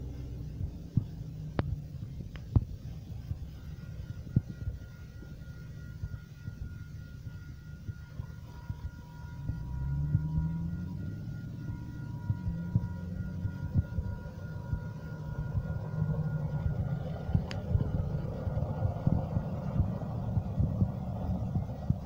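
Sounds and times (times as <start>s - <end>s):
truck rumbling on rail track: 0.0s - 4.0s, 8.1s - 22.0s
crossing signal ringing: 0.0s - 22.0s.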